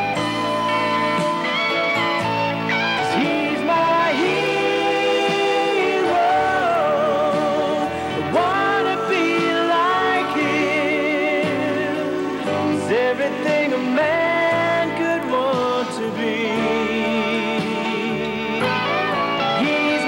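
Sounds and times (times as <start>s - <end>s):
band accompaniment: 0.0s - 20.0s
slow song with wavering melody: 0.0s - 20.0s.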